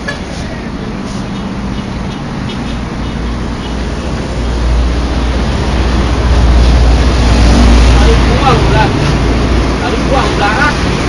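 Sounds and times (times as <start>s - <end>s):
heavy truck passing: 0.0s - 11.0s.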